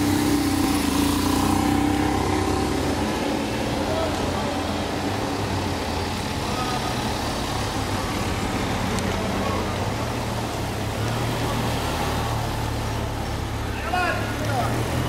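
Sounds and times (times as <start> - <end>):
motor scooter passing slowly: 0.0 - 15.0
street traffic noise: 0.0 - 15.0.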